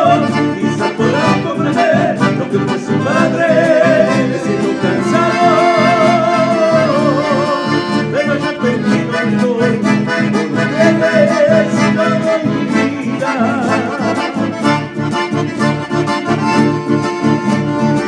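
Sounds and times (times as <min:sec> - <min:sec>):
accordion melody: 0:00.0 - 0:18.0
guitar and bass rhythm: 0:00.0 - 0:18.0.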